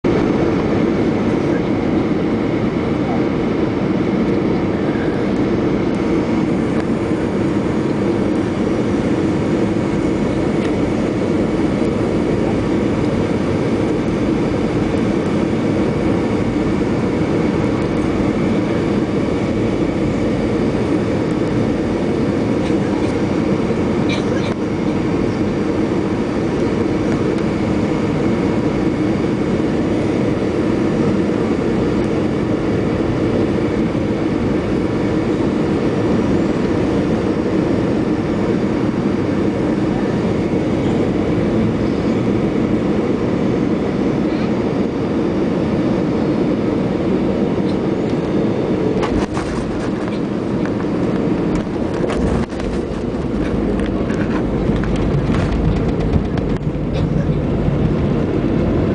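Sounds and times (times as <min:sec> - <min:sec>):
airplane cabin engine rumble: 0:00.0 - 0:58.9
faint steady engine whine: 0:00.0 - 0:58.9.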